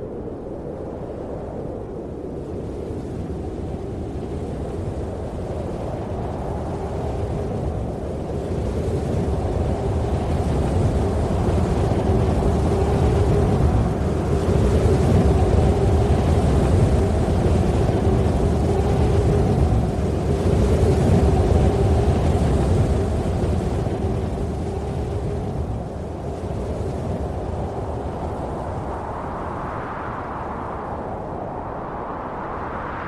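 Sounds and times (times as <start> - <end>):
steady humming tone: 1.9 - 33.0.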